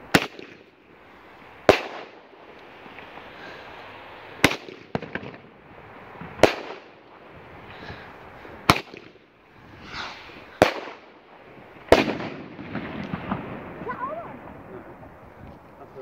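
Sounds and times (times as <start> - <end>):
fireworks bangs: 0.0 - 15.4
fireworks crackling: 0.0 - 16.0.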